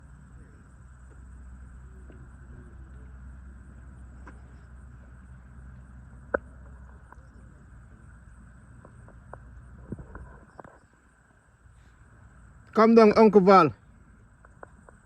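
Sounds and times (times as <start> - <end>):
engine and airflow drone: 0.0 - 15.0
faint high whine: 0.0 - 15.0.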